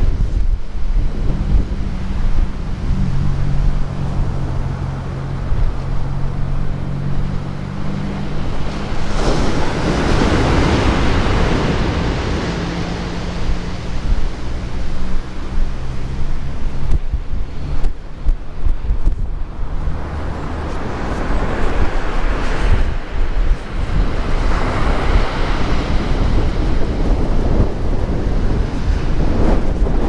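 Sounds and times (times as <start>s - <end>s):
surf breaking on beach: 0.0s - 30.0s
wave crashing and washing up: 0.0s - 30.0s
wind rumble on microphone: 0.0s - 30.0s.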